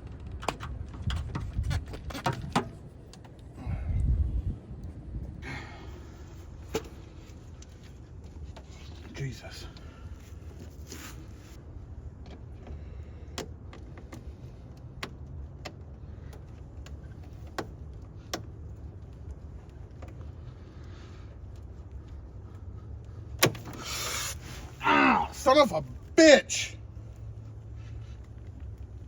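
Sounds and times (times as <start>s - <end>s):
low steady rumble: 2.7s - 29.0s.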